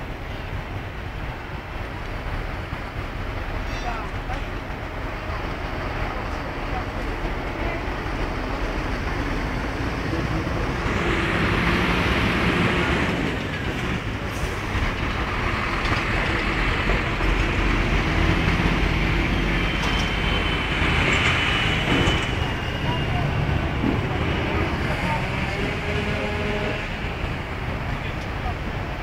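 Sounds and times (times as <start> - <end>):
street noise: 0.0 - 29.0
heavy truck engine running: 0.1 - 29.0.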